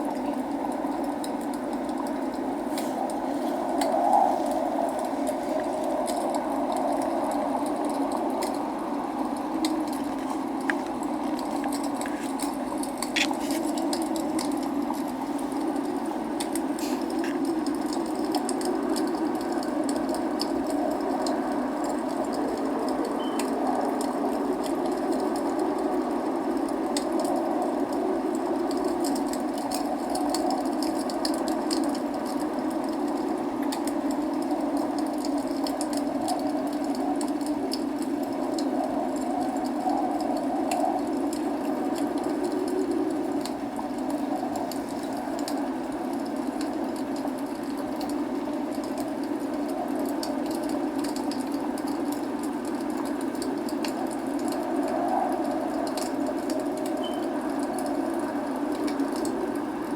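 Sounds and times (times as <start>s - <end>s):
log fire crackling and popping: 0.0s - 59.9s
rain rushing: 0.0s - 59.9s.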